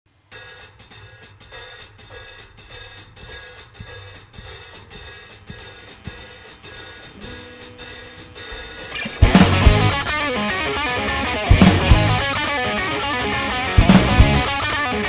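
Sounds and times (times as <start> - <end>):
rock drum beat: 0.2 - 15.0.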